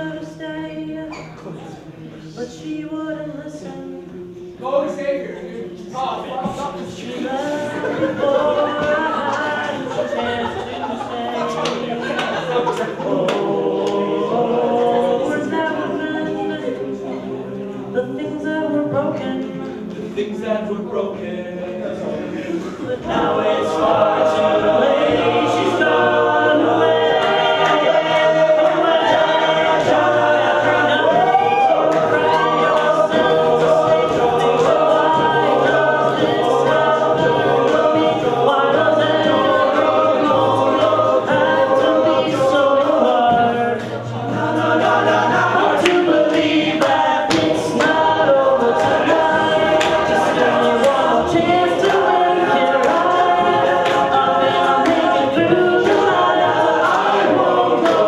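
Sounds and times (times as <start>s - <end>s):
backing vocal harmonies: 0.0s - 58.0s
vocal percussion beat: 5.6s - 58.0s.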